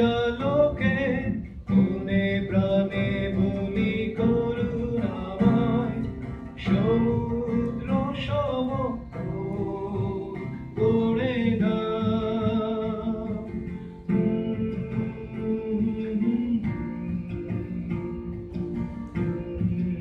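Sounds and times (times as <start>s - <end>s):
man singing: 0.0s - 18.0s, 19.2s - 20.0s
acoustic guitar strumming: 0.0s - 20.0s.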